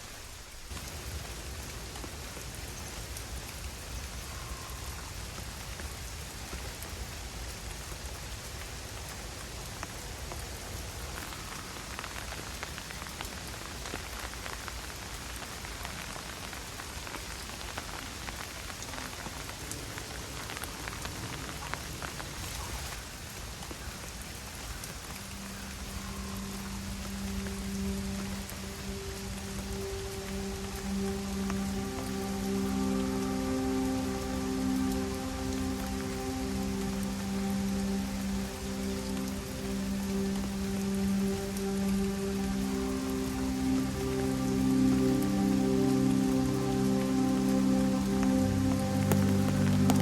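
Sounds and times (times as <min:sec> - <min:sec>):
rain falling: 0:00.0 - 0:50.0.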